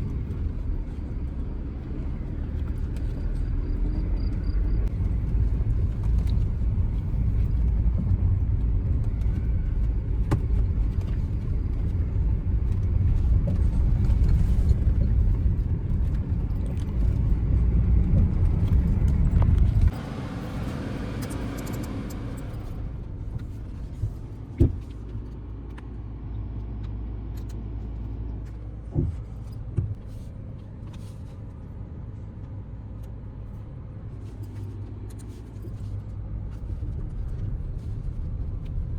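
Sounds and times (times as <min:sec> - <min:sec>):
car engine and road noise: 0:00.0 - 0:38.9
quiet low hum: 0:00.0 - 0:38.9.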